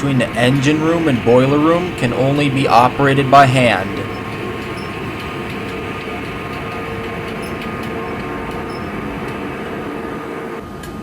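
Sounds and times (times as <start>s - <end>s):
constant machinery hum: 0.0s - 11.0s
engine room machinery rumbling: 0.0s - 11.0s.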